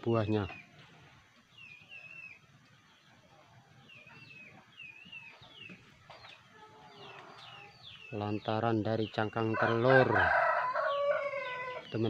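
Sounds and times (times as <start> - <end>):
small bird chirping: 0.0 - 10.1.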